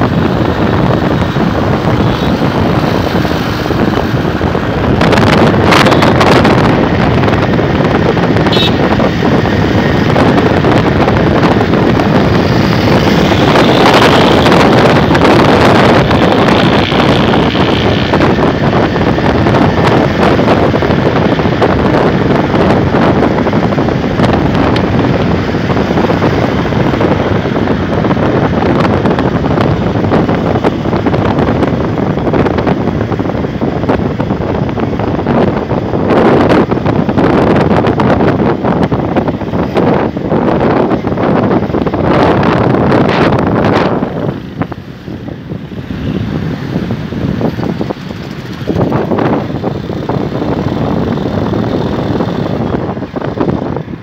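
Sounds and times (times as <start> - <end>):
tyre and road noise: 0.0 - 54.0
wind rushing over microphone: 0.0 - 54.0.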